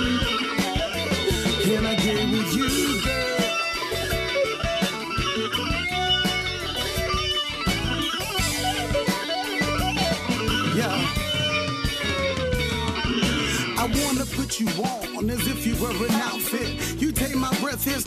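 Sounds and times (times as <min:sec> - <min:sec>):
electric guitar music over a beat: 0:00.0 - 0:18.0.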